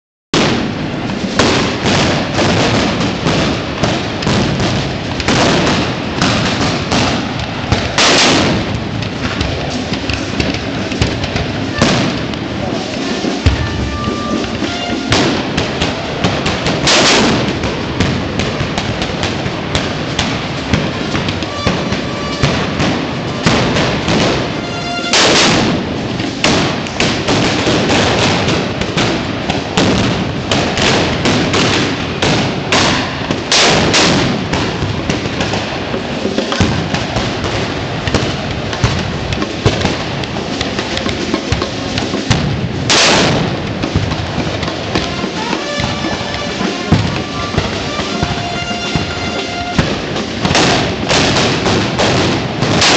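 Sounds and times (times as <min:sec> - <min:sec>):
blunderbusses firing blanks: 0:00.4 - 0:52.9
loud close gunshots: 0:00.4 - 0:52.9.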